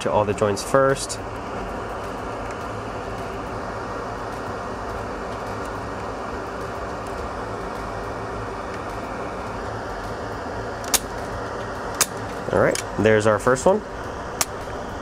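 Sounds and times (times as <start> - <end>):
even hiss: 0.0 - 15.0
low hum: 0.0 - 15.0.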